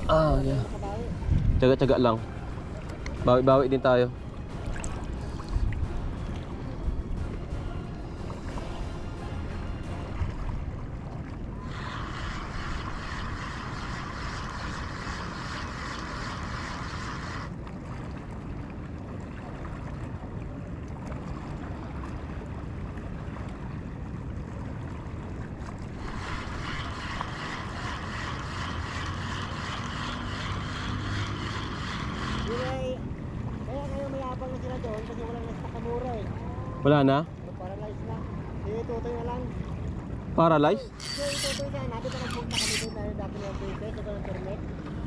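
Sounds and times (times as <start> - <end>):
water noise: 0.0 - 45.0
wind: 0.0 - 45.0.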